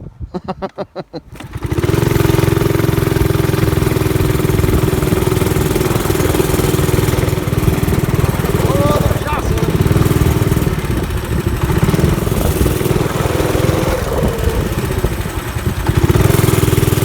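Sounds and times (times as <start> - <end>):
small gasoline engine running: 1.3 - 17.0.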